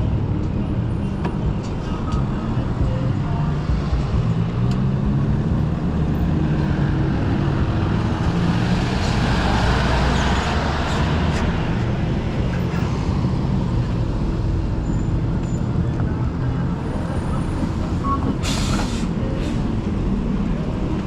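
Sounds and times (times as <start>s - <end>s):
traffic engine rumble: 0.0s - 21.0s.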